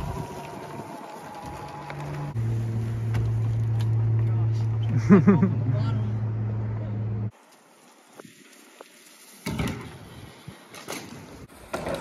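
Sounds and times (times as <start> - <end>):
faint outdoor background: 0.0 - 11.8.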